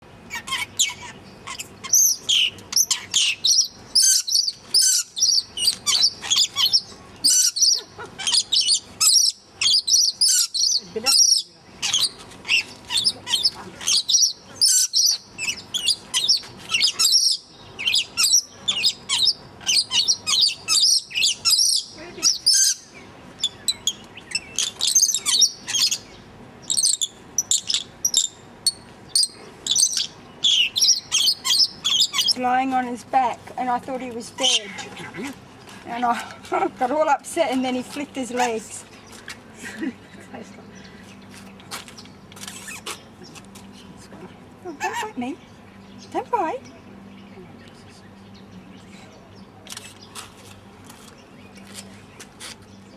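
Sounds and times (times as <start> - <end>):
small birds chirping: 0.1 - 52.9.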